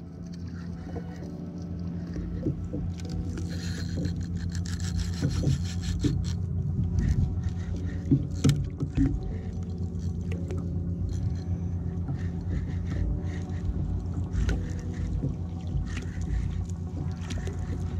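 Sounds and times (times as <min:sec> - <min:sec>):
fishing reel whirring and clicking: 0:00.0 - 0:17.9.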